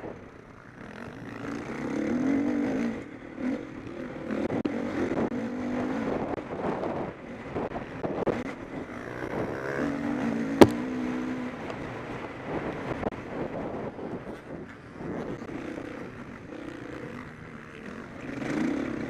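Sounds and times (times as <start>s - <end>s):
motocross bike engines revving: 0.3s - 12.2s, 14.2s - 19.0s.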